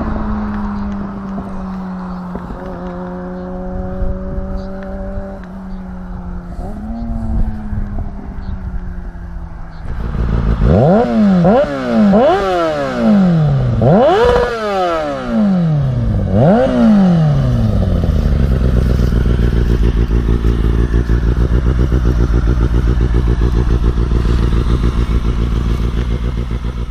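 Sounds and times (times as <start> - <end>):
motorcycle engine idling: 0.0 - 14.0, 15.2 - 26.9
motorcycle engine revving: 0.0 - 26.9.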